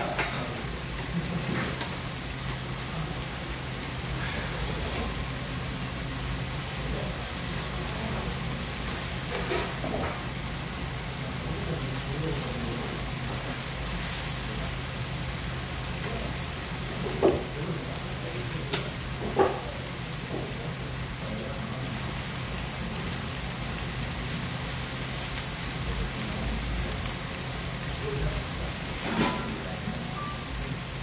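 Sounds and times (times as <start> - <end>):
chicken sizzling on a griddle pan: 0.0 - 31.0.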